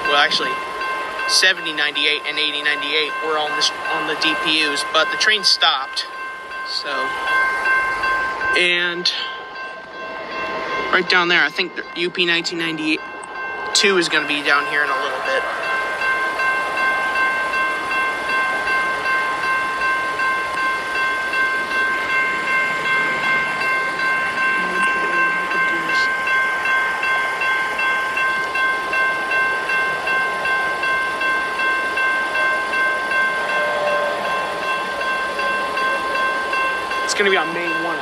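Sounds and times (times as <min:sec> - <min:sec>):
railroad crossing bell ringing: 0:00.0 - 0:38.0
train noise rushing: 0:00.0 - 0:38.0.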